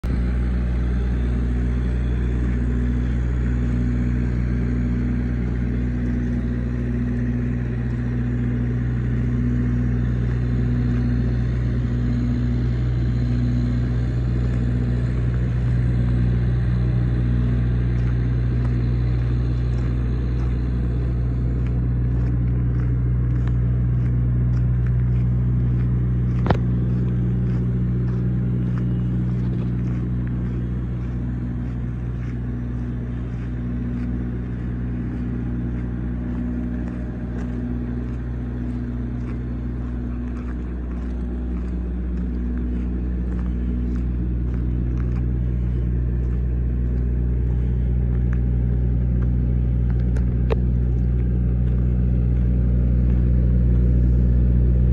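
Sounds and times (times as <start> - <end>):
bus engine idling: 0.0 - 54.9.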